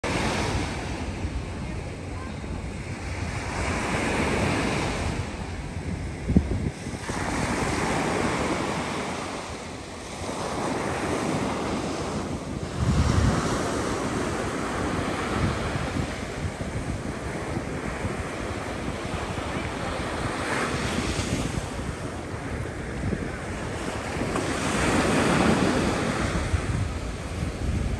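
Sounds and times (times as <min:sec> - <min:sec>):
surf breaking on sandy beach: 0:00.0 - 0:27.9
wind buffeting microphone: 0:00.0 - 0:27.9.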